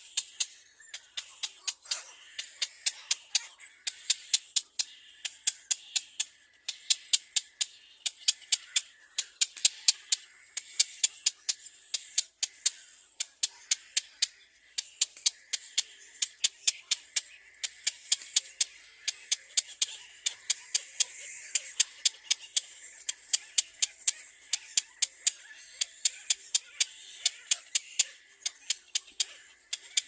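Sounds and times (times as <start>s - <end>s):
baby birds chirping: 0.0s - 30.0s.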